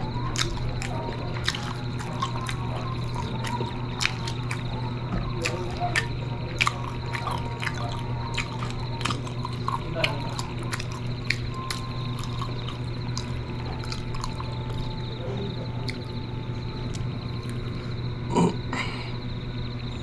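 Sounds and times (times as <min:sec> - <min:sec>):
wet chewing and mouth sounds: 0:00.0 - 0:15.2, 0:15.8 - 0:16.2, 0:16.8 - 0:18.0
steady low hum: 0:00.0 - 0:20.0.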